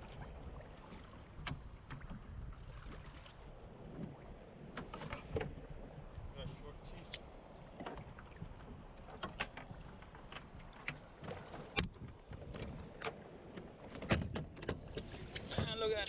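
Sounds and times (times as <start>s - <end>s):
knocks and clicks from boat: 0.0s - 16.0s
wind: 0.0s - 16.0s.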